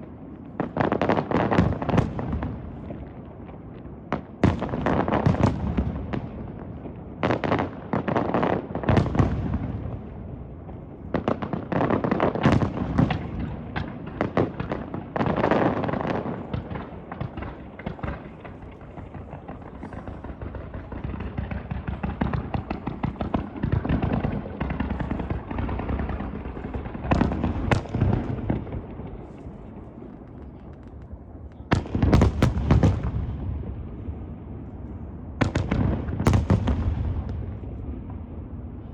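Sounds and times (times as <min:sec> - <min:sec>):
fireworks bursting with bangs: 0:00.0 - 0:38.9
fireworks crackling: 0:00.0 - 0:38.9.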